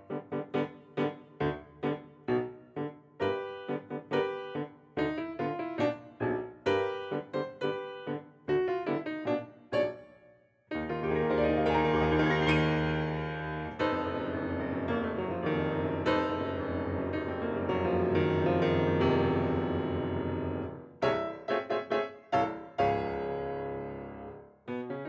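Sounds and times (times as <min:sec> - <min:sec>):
background piano music: 0:00.0 - 0:25.0.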